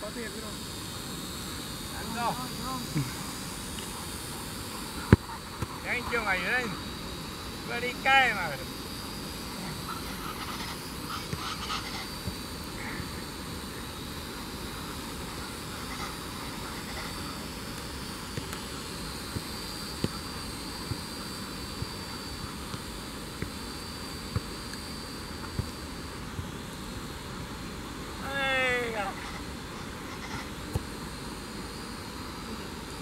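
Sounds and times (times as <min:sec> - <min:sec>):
drone buzzing with high whine: 0:00.0 - 0:33.0.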